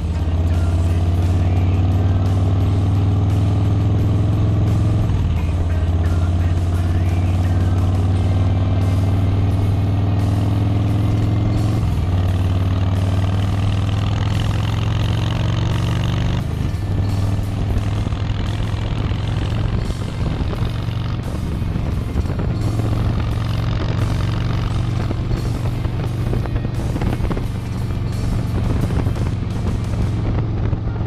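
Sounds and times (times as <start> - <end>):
motorcycle engine running loudly: 0.0 - 31.0.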